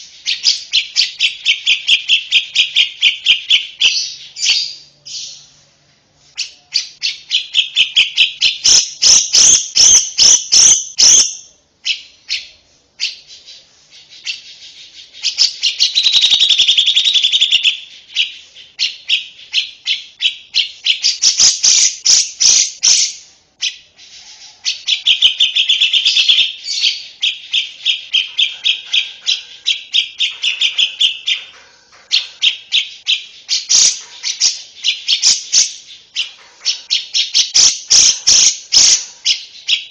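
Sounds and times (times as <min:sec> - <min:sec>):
lovebird chattering trills: 0:06.4 - 0:39.9.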